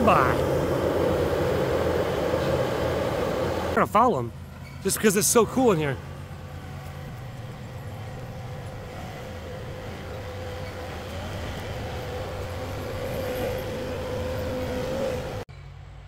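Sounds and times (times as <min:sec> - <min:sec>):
diesel engine whine and rumble: 0:00.0 - 0:16.0.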